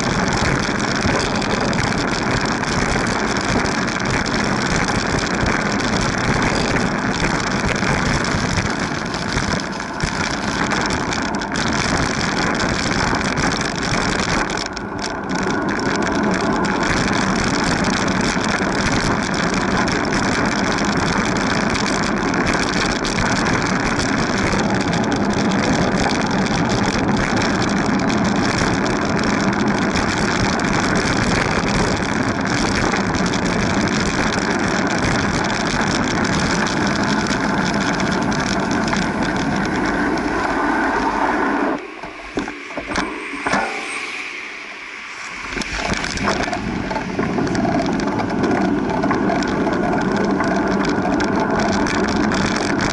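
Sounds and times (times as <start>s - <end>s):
road rumble: 0.0s - 52.9s
rushing wind: 0.0s - 52.9s.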